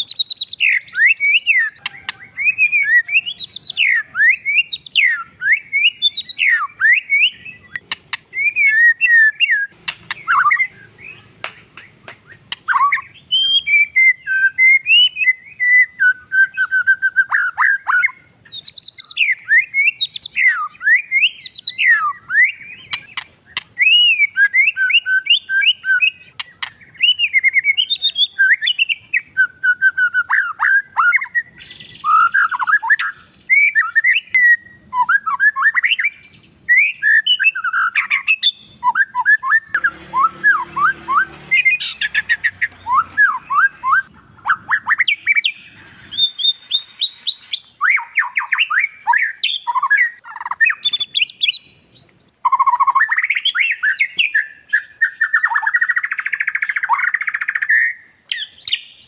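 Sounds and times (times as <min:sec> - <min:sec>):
songbird whistling and chirping: 0:00.0 - 0:59.0.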